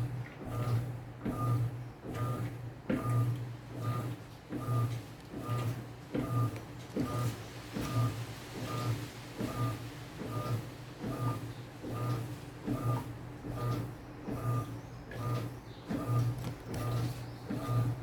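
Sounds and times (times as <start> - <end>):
washing machine rhythmic cycle: 0.0 - 18.0.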